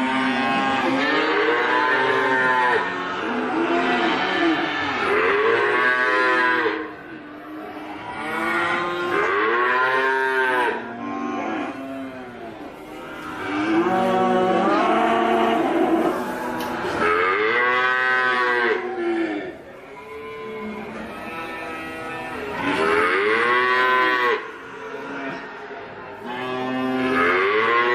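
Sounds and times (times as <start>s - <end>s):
cattle mooing: 0.0s - 6.9s, 7.6s - 16.3s, 16.9s - 25.4s, 26.2s - 27.9s.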